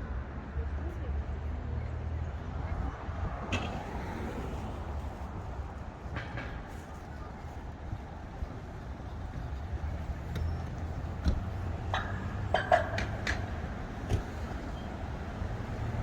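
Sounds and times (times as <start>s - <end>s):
low rumble of street traffic: 0.0s - 16.0s.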